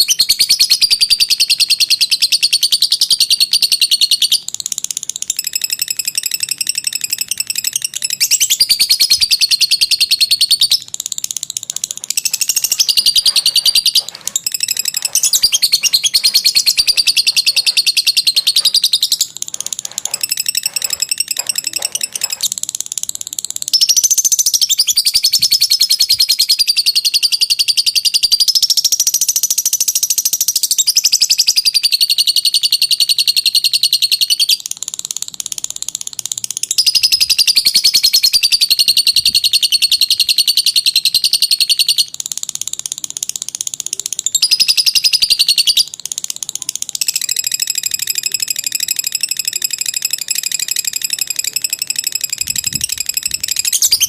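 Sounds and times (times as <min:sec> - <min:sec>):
bird chattering trill: 0:00.0 - 0:54.0.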